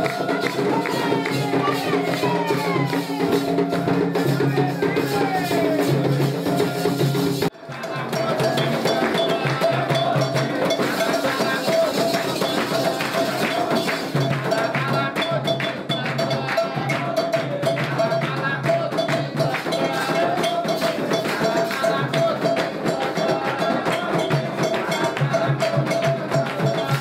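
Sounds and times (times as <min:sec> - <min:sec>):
hand drums playing: 0:00.0 - 0:27.0.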